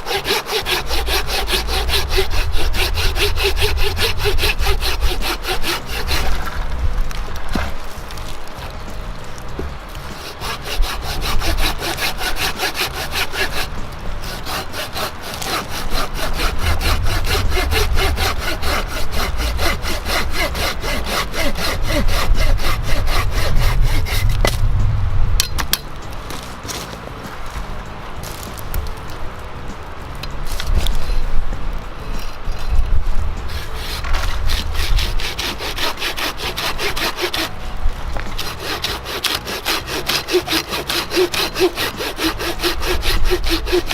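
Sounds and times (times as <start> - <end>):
hand saw cutting wood: 0.0 - 24.6, 25.4 - 29.2, 32.0 - 43.9.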